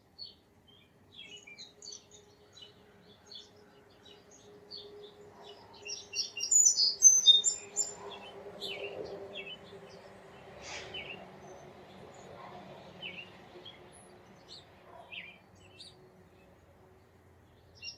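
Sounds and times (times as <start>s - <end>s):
songbirds chirping and twittering: 0.0s - 17.9s.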